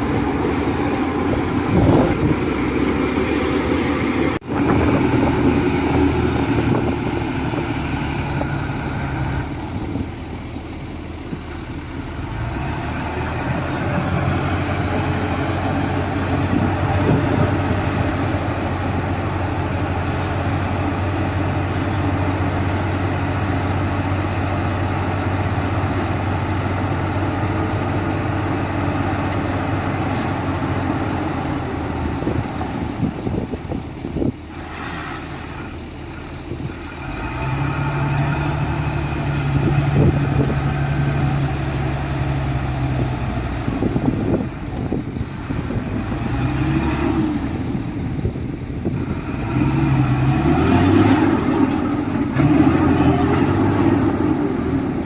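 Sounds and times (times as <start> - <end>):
heavy diesel machinery running: 0.0 - 55.0
higher-pitched diesel engine: 0.0 - 55.0.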